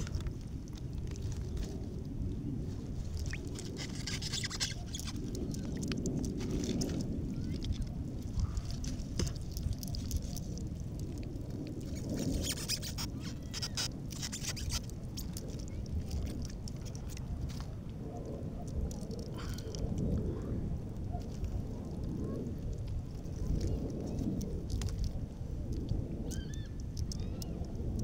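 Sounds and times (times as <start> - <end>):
small clicks and crackles: 0.0 - 28.0
wind and water rumble: 0.0 - 28.0.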